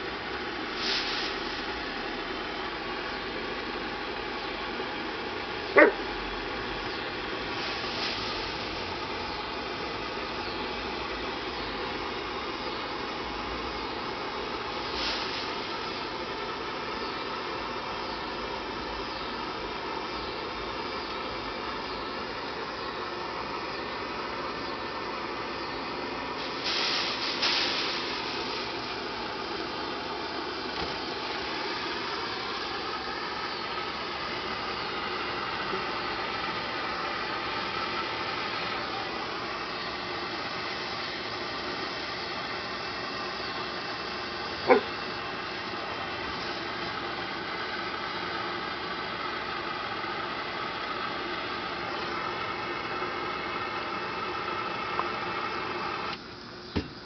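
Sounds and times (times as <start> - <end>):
gas torch hissing: 0.0 - 57.0.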